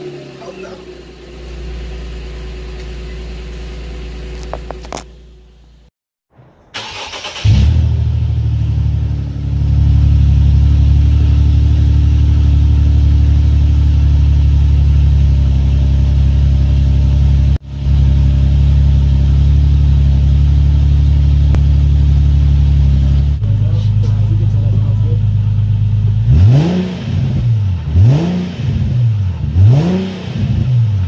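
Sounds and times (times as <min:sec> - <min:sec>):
loud car exhaust drone: 0:00.0 - 0:05.9, 0:06.8 - 0:31.0.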